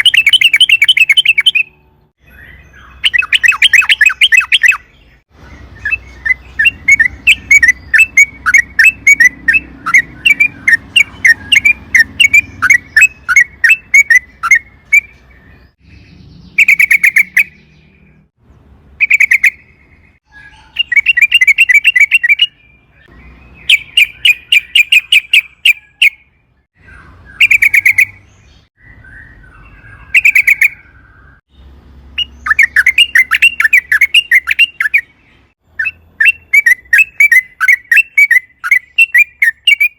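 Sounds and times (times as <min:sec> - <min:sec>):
bird singing rapid chattering phrases: 0:00.0 - 0:39.9.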